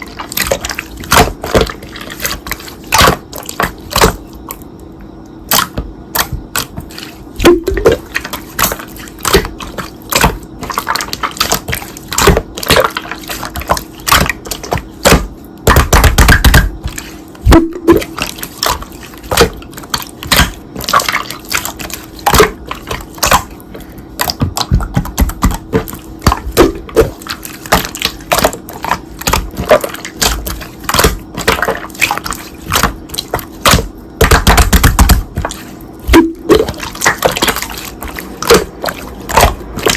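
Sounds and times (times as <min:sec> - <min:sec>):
slime squelching and popping: 0:00.0 - 0:39.9.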